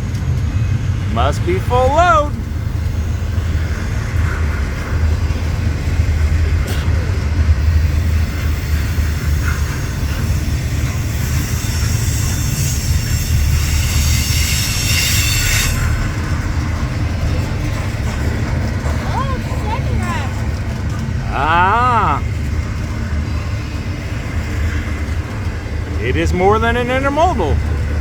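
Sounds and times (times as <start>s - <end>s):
train wheels rumbling on rails: 0.0s - 21.3s, 22.2s - 26.0s, 27.6s - 28.0s.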